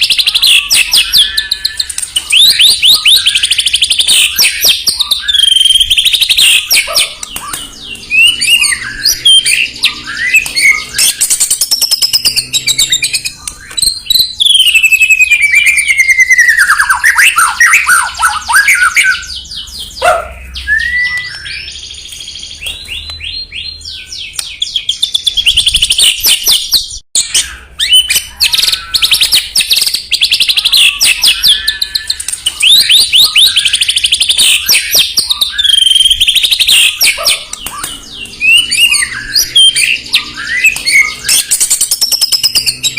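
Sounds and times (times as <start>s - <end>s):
bird singing whistles and trills: 0.0s - 42.9s.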